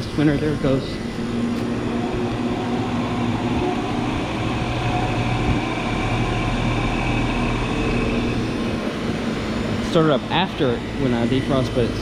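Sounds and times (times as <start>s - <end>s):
condenser fan running: 0.0s - 12.0s
heat pump compressor hum: 0.0s - 12.0s.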